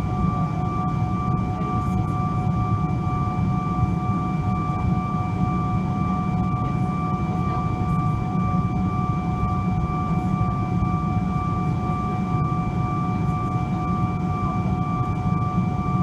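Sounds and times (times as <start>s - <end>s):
jet engines rumbling and whining: 0.0s - 16.0s.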